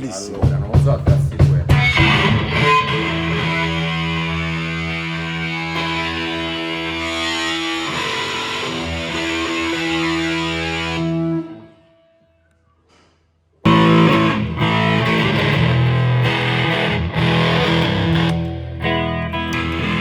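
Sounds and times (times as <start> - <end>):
live band with distorted guitar: 0.0 - 11.7, 13.6 - 20.0.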